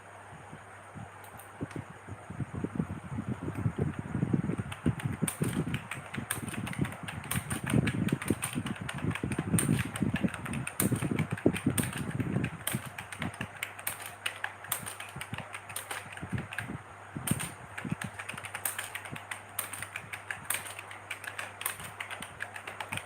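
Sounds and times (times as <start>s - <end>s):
computer keyboard typing: 3.5s - 23.0s.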